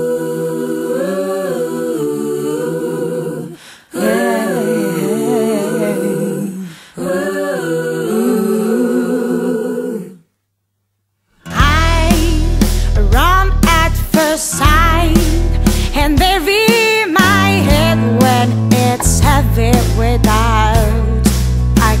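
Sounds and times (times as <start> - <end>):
a cappella voices singing chords: 0.0 - 10.4, 11.5 - 22.0.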